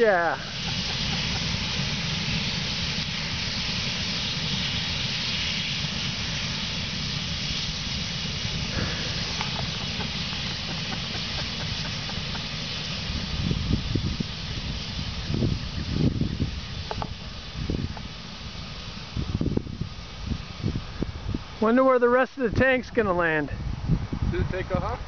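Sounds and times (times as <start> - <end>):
gas hissing from tank: 0.0 - 25.0.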